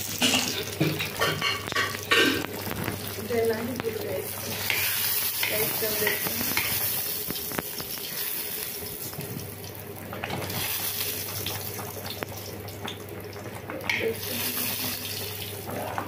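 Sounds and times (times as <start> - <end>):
garlic sizzling in oil: 0.0 - 16.0.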